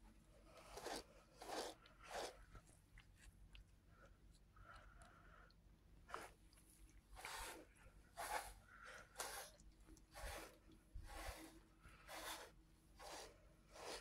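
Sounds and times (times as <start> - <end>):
brush stroking cat fur: 0.0 - 3.6, 6.1 - 14.0.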